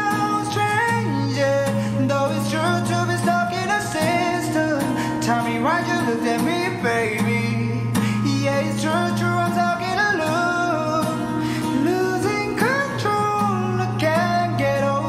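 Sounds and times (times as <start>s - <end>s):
acoustic guitar: 0.0s - 15.0s
man singing: 0.0s - 15.0s.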